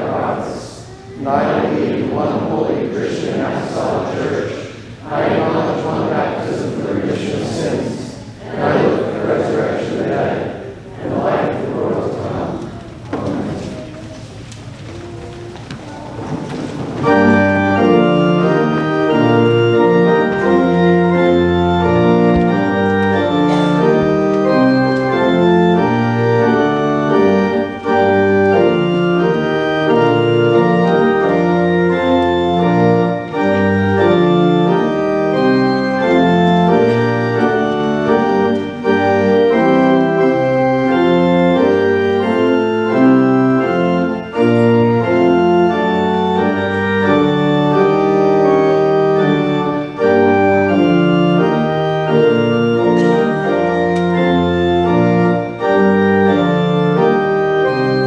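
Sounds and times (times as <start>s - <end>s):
pipe organ sustained chords: 0.0s - 58.0s.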